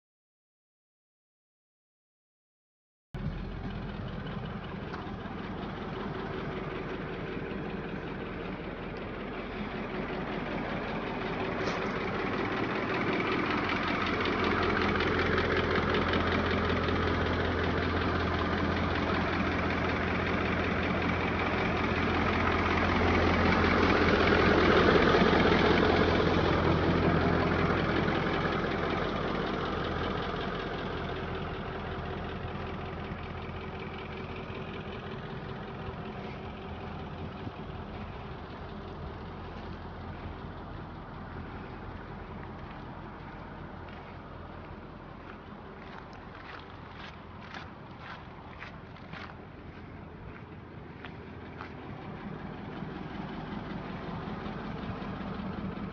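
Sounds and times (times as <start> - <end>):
diesel engine idling: 3.2 - 55.9.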